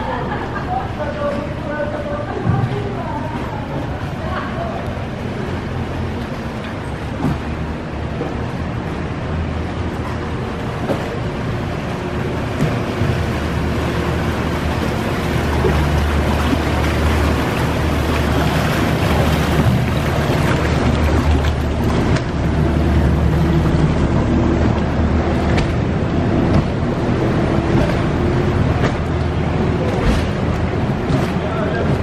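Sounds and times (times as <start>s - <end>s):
motorboat engine hum: 0.0s - 32.0s
rushing water: 0.0s - 32.0s.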